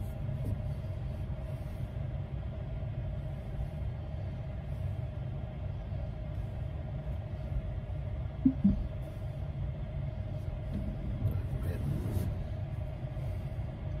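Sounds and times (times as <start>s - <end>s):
low rumble with constant hum: 0.0s - 14.0s.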